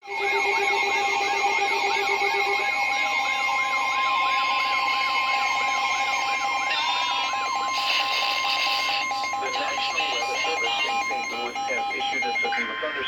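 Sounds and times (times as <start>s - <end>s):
siren-like warble: 0.0s - 13.0s.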